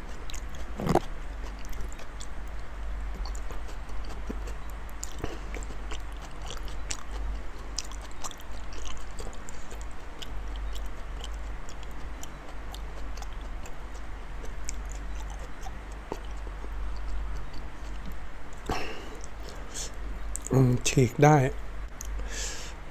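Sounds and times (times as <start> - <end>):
wet chewing mouth clicks: 0.0 - 20.5
steady low hum: 0.0 - 22.9.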